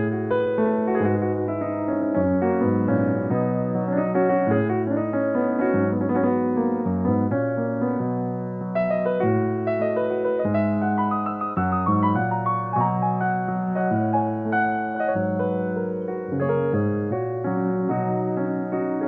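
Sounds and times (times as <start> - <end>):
slow solo piano song: 0.0 - 19.0.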